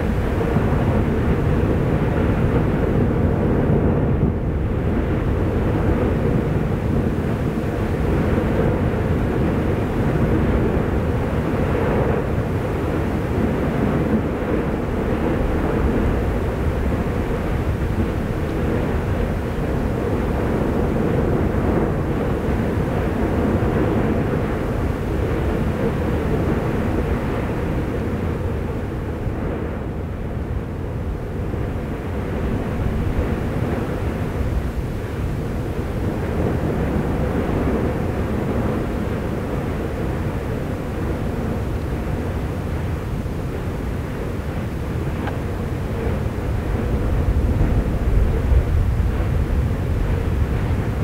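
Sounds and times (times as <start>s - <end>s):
volcanic vent roaring: 0.0s - 51.0s
lava churning: 4.6s - 29.7s, 30.3s - 51.0s.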